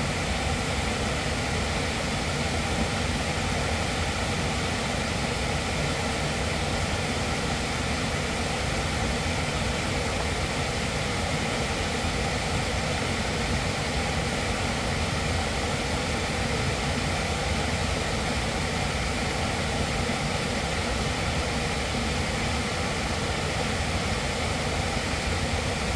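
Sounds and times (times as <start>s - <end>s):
waterfall rushing over rocks: 0.0s - 25.9s.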